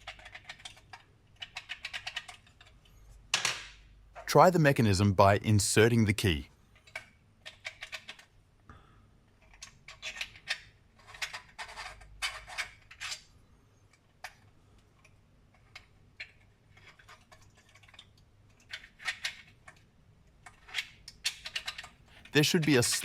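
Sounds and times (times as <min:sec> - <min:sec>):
plastic parts clicking and rattling: 0:00.0 - 0:03.8, 0:06.7 - 0:08.4, 0:09.3 - 0:13.3, 0:13.9 - 0:23.0.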